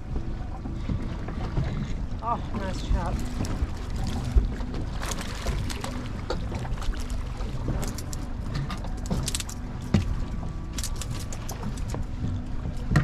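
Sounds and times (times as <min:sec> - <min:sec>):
low steady rumble: 0:00.0 - 0:13.0
water slapping against hull: 0:00.0 - 0:13.0.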